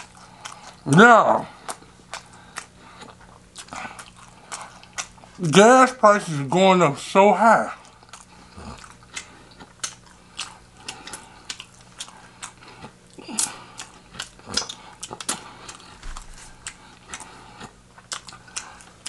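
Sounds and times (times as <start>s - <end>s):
person chewing food: 0.0s - 5.6s, 7.6s - 19.0s.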